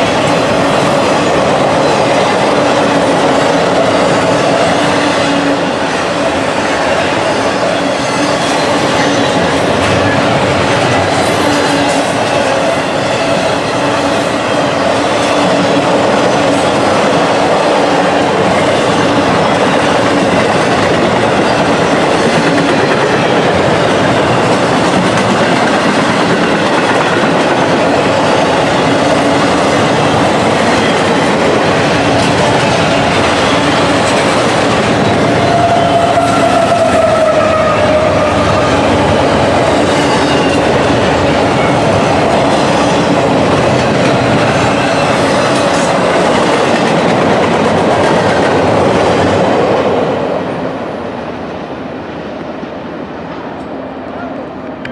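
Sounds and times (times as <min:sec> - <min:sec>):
train wheels clattering on rail: 0:00.0 - 0:50.6.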